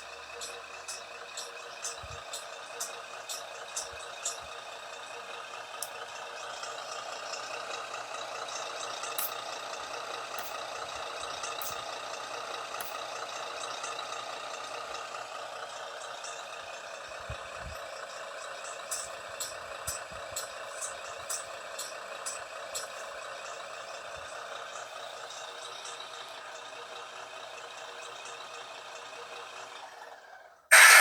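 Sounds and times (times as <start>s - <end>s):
simulated truck engine from speaker: 0.0s - 31.0s.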